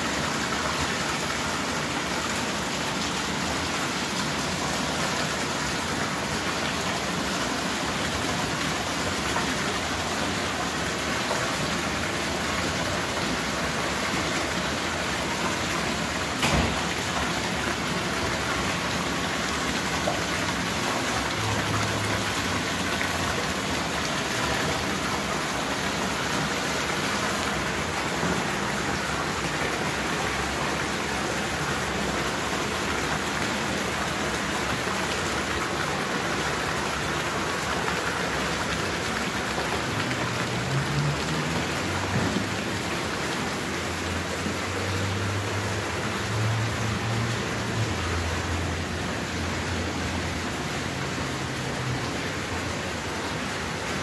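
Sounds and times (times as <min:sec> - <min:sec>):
fountain water splashing into pool: 0:00.0 - 0:54.0.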